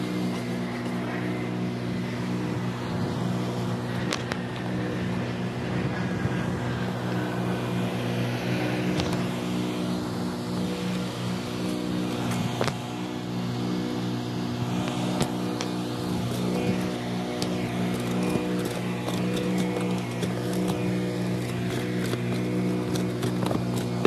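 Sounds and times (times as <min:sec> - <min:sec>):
gas engine running: 0:00.0 - 0:24.0.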